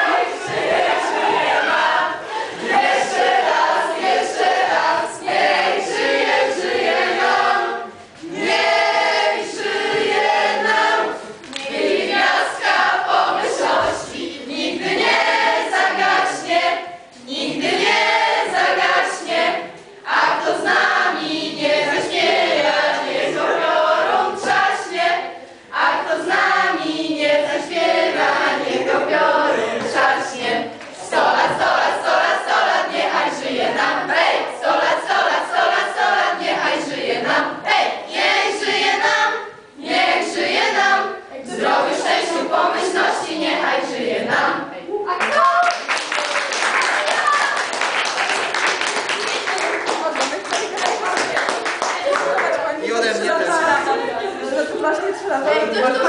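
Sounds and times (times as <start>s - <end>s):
group of young people singing: 0.0s - 56.0s.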